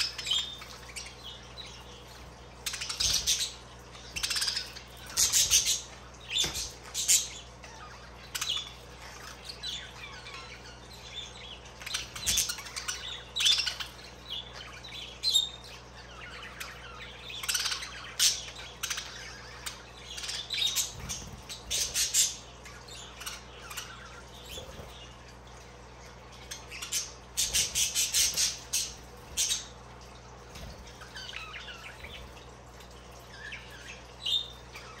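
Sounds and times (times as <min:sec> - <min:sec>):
budgerigars chirping and squawking: 0:00.0 - 0:35.0.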